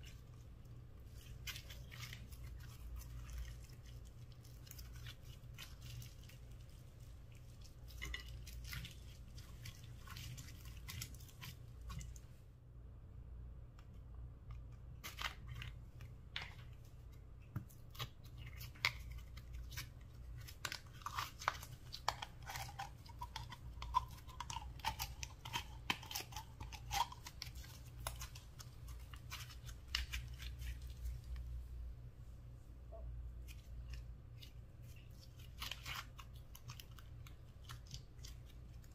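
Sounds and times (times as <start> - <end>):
hands kneading slime: 0.0 - 12.5, 13.6 - 38.9
slime squelching: 0.0 - 12.5, 14.4 - 38.9.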